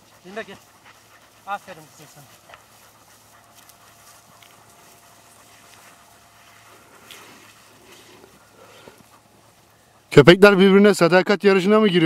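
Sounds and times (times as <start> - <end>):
footsteps in dry grass: 0.0 - 10.1.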